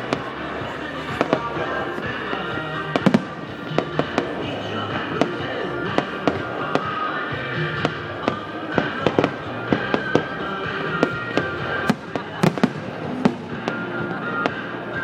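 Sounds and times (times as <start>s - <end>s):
music from sound system: 0.0s - 15.0s
fireworks bangs and pops: 1.0s - 7.1s, 7.7s - 15.0s.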